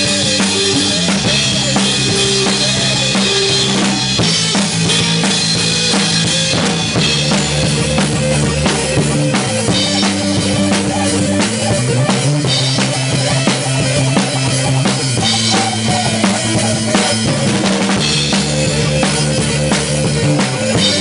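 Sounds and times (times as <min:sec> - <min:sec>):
drum kit steady beat: 0:00.0 - 0:21.0
electric guitar chords: 0:00.0 - 0:21.0.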